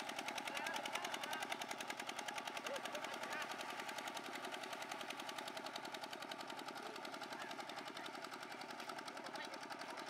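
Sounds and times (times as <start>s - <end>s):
diesel engine chugging: 0.0s - 10.0s.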